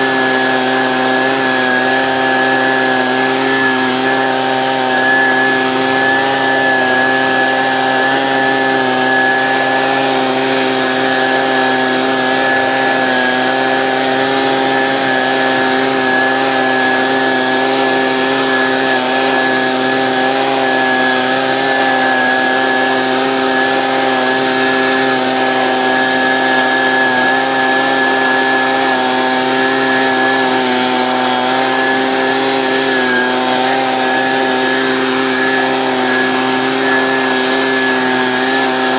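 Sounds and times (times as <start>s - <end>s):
leaf blower engine running: 0.0s - 38.9s.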